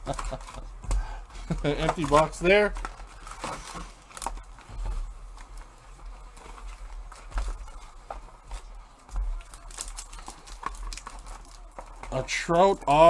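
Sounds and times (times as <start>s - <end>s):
soft clicks of card packs: 0.0s - 13.0s.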